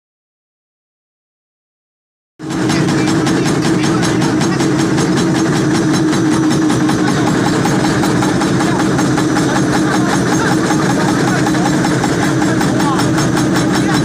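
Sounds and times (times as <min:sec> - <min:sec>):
hydraulic press pulsing hum: 0:02.4 - 0:14.0.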